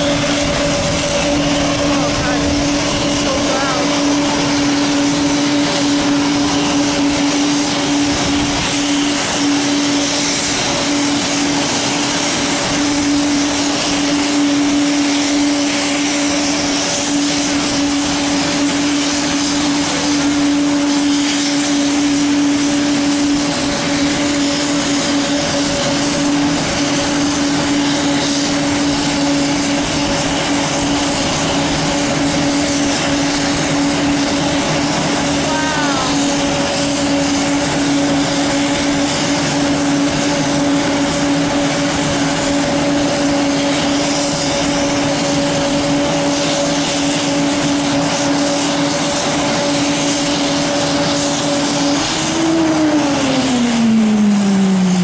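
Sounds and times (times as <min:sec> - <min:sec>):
propeller and turbine rush: 0:00.0 - 0:55.0
turboprop engines running: 0:00.0 - 0:55.0.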